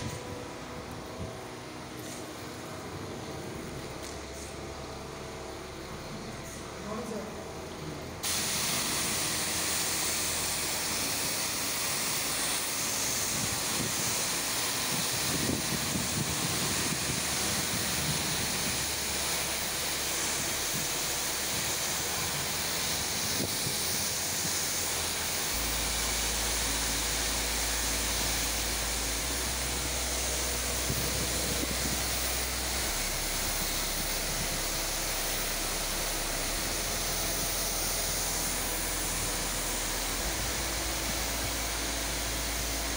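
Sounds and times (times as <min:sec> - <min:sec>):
pressure washer jet hissing: 0:08.2 - 0:42.9.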